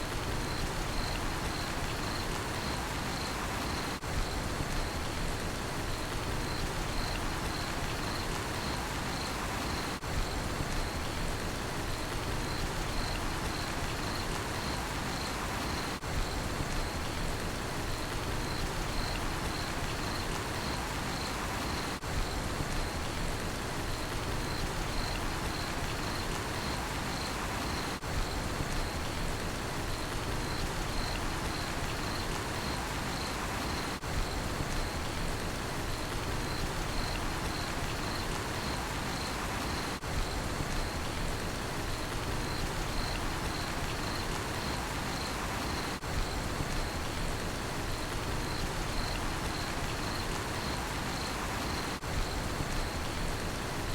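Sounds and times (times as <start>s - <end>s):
steady rain falling: 0.0s - 53.9s
crickets chirping: 0.2s - 5.2s, 5.9s - 11.2s, 11.8s - 17.2s, 17.8s - 23.2s, 23.8s - 53.9s.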